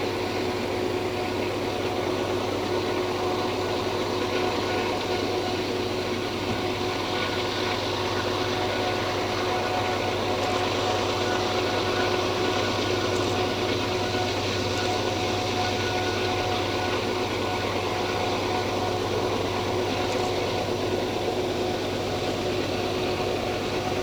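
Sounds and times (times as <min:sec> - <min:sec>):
constant high whine: 0:00.0 - 0:24.0
diesel locomotive rumble: 0:00.0 - 0:24.0.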